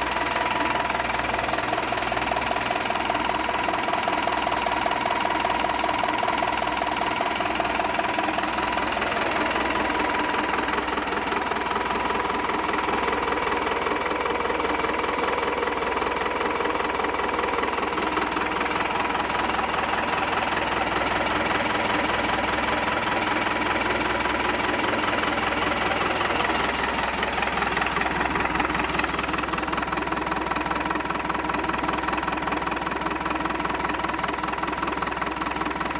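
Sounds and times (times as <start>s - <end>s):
diesel engine clattering: 0.0s - 35.9s.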